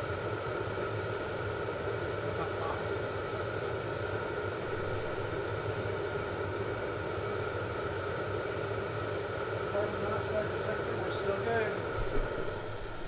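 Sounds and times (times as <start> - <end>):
air heater fan and burner: 0.0 - 13.0.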